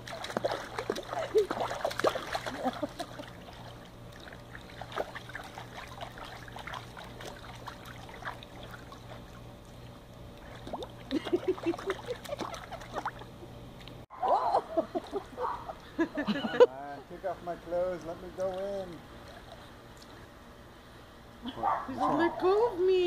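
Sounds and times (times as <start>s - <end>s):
pool water lapping and splashing: 0.0s - 20.5s
steady low hum: 0.0s - 23.0s.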